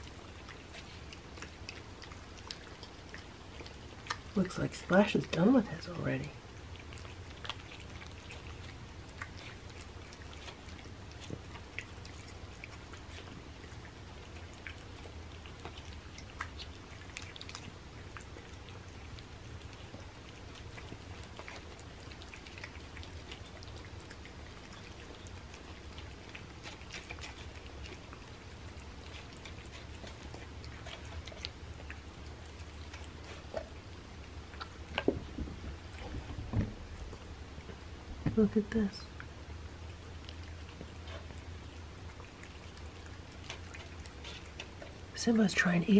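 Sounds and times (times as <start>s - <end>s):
cats chewing wet food: 0.0s - 45.9s.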